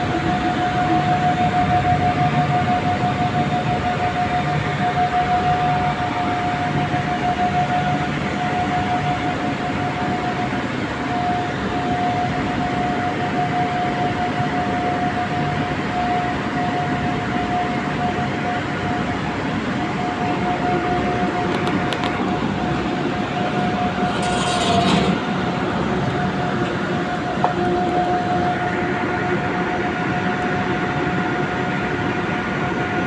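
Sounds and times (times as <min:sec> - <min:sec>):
constant high-pitched tone: 0:00.0 - 0:33.0.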